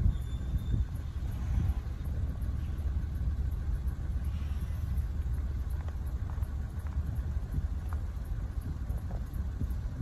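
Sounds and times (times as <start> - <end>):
train cars rumbling on rails: 0.0 - 10.0.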